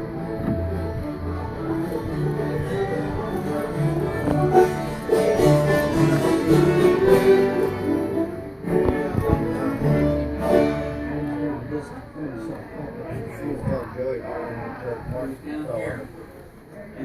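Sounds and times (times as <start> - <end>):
fiddle: 0.0 - 13.8
banjo: 0.0 - 13.9
guitar: 0.0 - 17.0.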